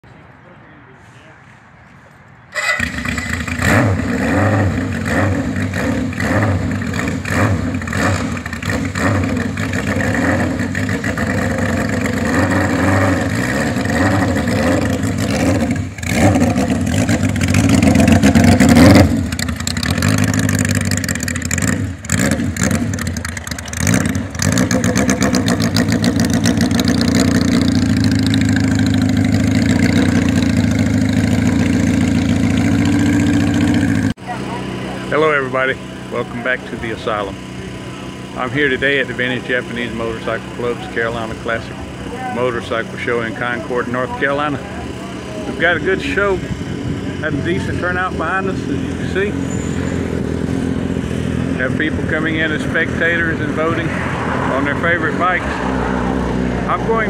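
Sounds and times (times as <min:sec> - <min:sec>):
motorcycle engine revving and idling: 0:02.5 - 0:57.0.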